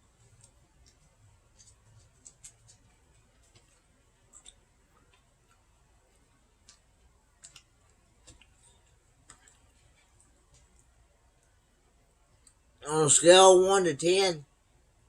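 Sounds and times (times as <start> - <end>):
faint eating clicks: 0.0 - 12.8.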